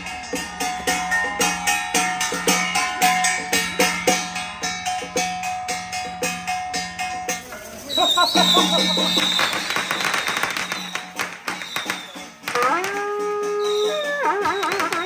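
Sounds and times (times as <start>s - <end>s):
metal percussion struck rhythmically: 0.0s - 15.0s.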